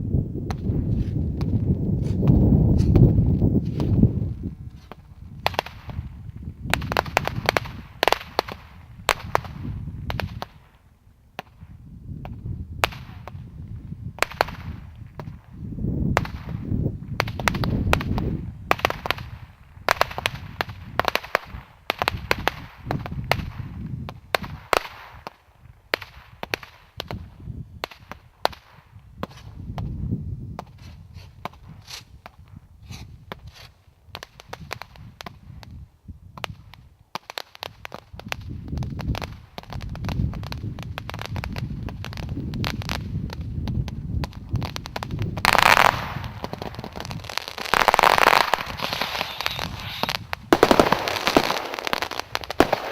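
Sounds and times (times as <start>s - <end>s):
fireworks bangs and cracks: 0.4s - 10.8s, 11.4s - 13.5s, 14.2s - 29.9s, 36.4s - 52.9s.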